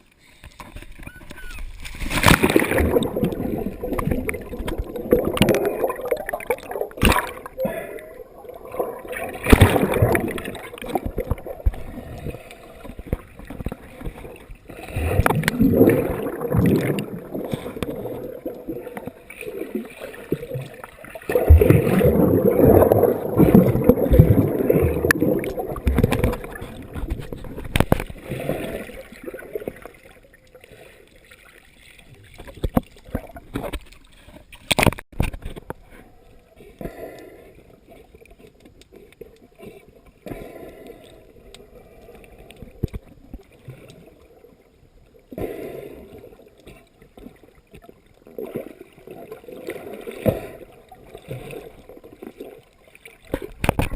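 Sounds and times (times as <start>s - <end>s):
water gurgling and splashing: 0.6s - 53.9s.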